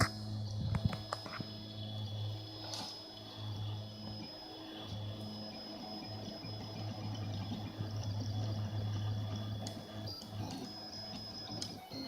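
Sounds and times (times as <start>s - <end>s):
stepper motors humming: 0.0s - 12.0s.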